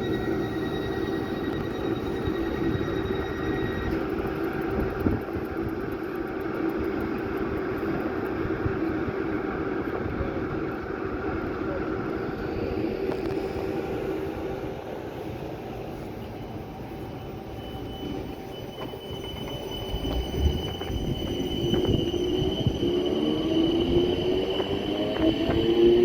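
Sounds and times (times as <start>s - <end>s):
electric train motor whine: 0.0s - 9.2s, 12.1s - 26.0s.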